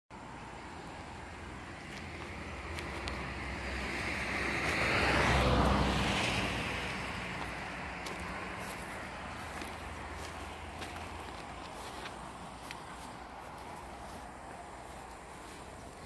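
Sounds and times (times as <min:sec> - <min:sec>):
vehicle passing by: 0:00.2 - 0:16.0.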